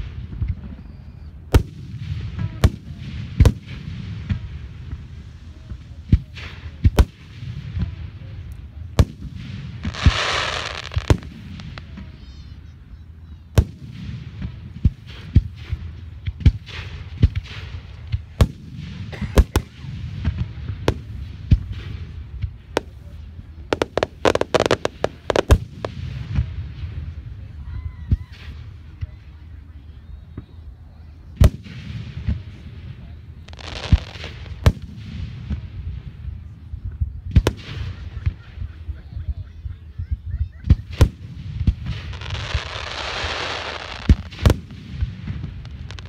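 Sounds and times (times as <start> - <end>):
fireworks booming: 0.0 - 12.6, 13.4 - 29.3, 31.4 - 38.9, 40.6 - 46.0
rapid fireworks pops: 0.0 - 12.6, 13.5 - 27.5, 31.4 - 46.0.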